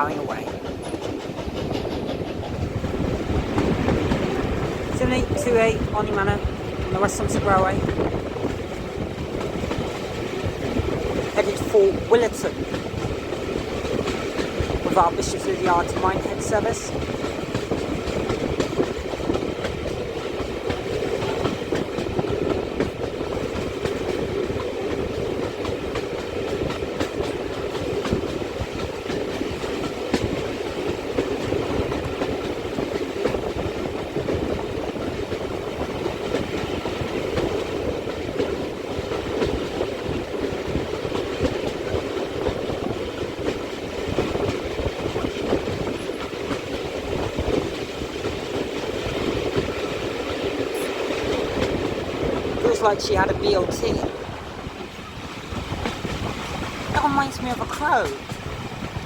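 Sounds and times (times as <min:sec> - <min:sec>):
train wheels clattering over rails: 0:00.2 - 0:05.2, 0:06.0 - 0:59.0.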